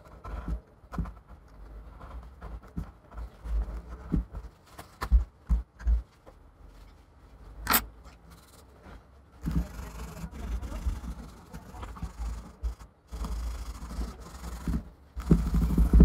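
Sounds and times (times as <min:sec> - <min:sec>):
hands rubbing and scraping: 0:00.0 - 0:16.0.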